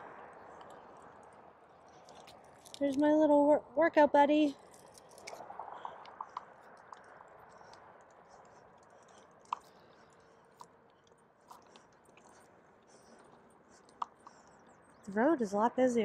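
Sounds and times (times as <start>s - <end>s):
stroller wheels rolling on asphalt: 0.0s - 16.0s.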